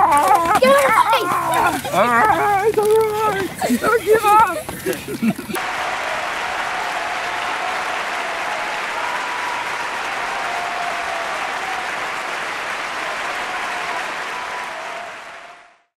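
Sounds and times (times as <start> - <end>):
crowd applause: 0.0 - 15.9.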